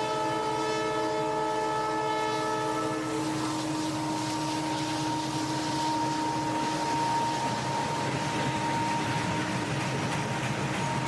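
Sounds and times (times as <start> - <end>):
freight train rumbling past: 0.0 - 11.0
thin steady whine: 0.0 - 11.0.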